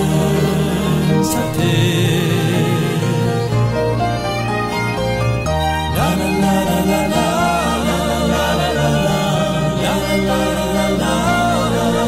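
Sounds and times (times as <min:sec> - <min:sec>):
slow music over held chords: 0:00.0 - 0:12.0
wavering melody line: 0:00.0 - 0:12.0.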